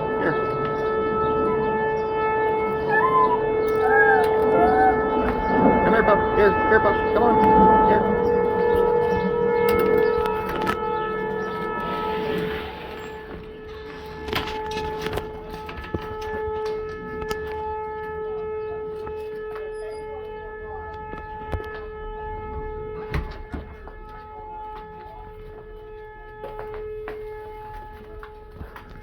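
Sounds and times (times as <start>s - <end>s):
warning siren steady tone: 0.0s - 29.0s.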